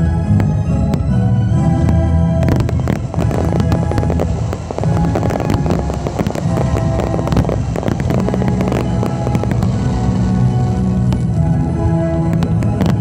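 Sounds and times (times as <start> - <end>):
music playing: 0.0 - 13.0
fireworks bursting and crackling: 0.3 - 13.0.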